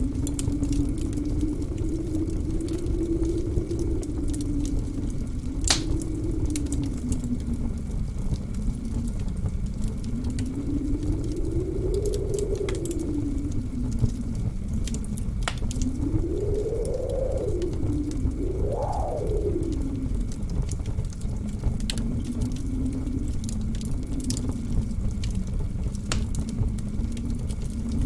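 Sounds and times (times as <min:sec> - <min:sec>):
howling blizzard wind: 0:00.0 - 0:28.0
wood fire crackling and popping: 0:00.0 - 0:28.0.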